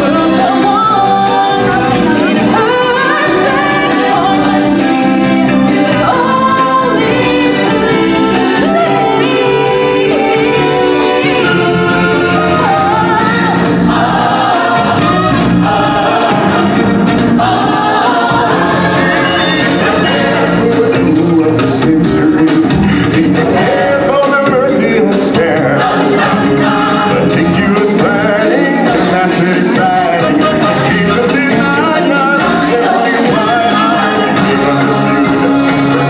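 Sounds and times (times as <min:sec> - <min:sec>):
choir singing: 0:00.0 - 0:36.0
live stage music: 0:00.0 - 0:36.0.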